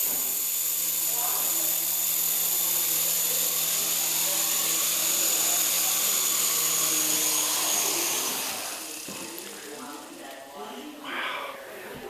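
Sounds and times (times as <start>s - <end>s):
toy helicopter high whine: 0.0s - 11.7s.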